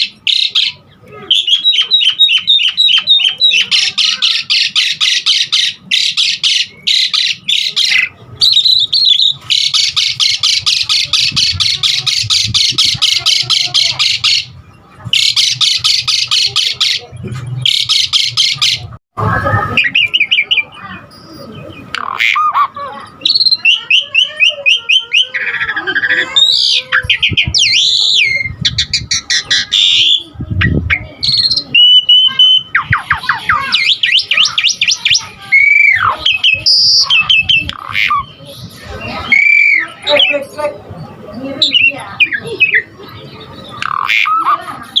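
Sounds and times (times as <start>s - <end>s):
starling singing: 0.0s - 45.0s.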